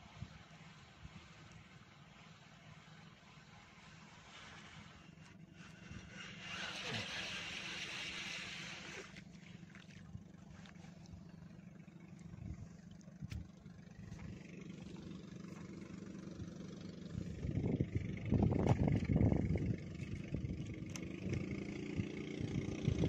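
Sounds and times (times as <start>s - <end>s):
engine humming: 0.0s - 23.0s.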